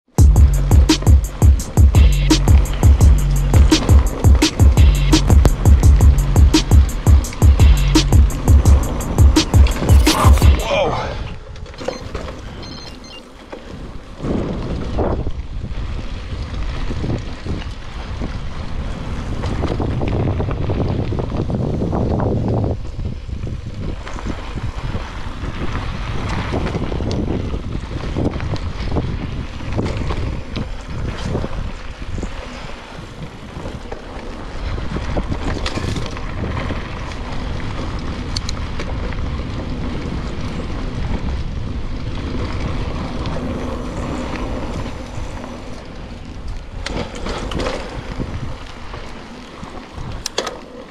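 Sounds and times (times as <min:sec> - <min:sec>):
wind buffeting microphone: 0:00.1 - 0:11.8, 0:13.7 - 0:50.9
tyres rolling on dirt: 0:00.2 - 0:50.9.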